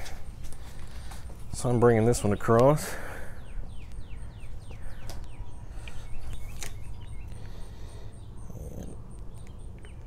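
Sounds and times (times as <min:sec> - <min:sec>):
bird chirping falling notes: 0:01.6 - 0:10.0.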